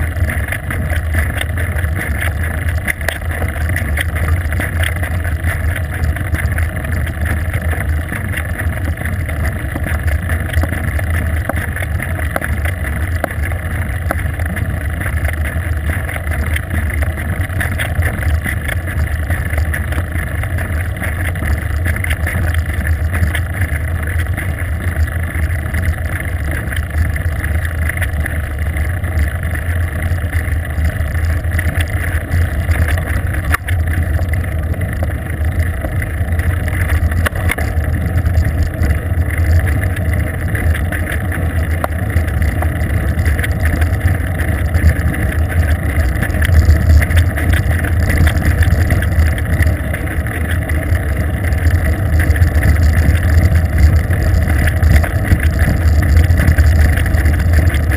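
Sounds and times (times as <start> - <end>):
tyres on asphalt: 0.0 - 57.9.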